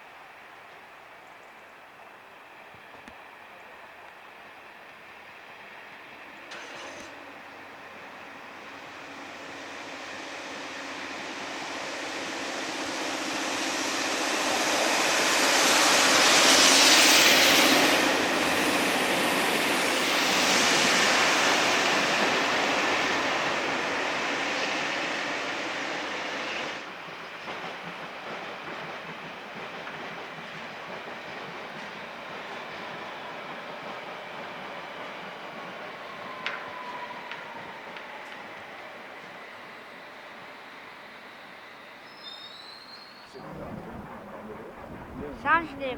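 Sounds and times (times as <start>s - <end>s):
train running past: 0.0s - 45.9s.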